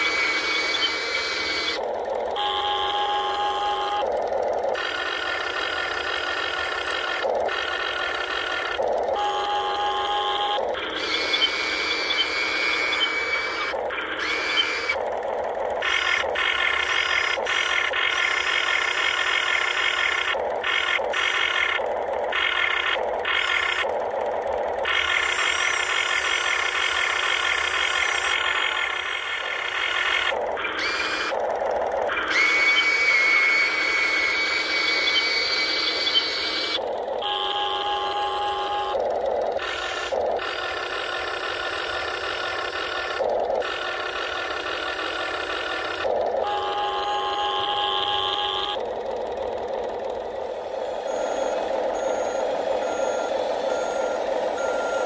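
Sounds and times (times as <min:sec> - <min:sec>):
toy excavator motors whining: 0:00.0 - 0:55.0.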